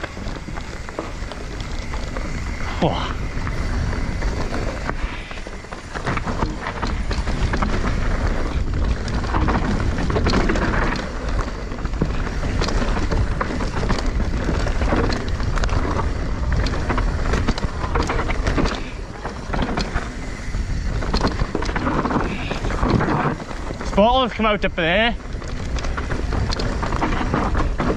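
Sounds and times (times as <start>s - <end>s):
bike knocking and rattling: 0.0s - 27.9s
tyres rolling over dirt and rocks: 0.0s - 27.9s
wind buffeting microphone: 0.0s - 27.9s.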